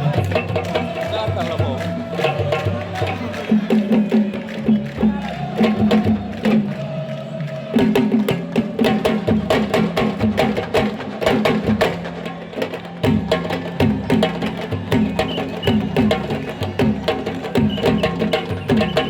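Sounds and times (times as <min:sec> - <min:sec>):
fast hand drumming: 0:00.0 - 0:07.0, 0:07.6 - 0:19.0.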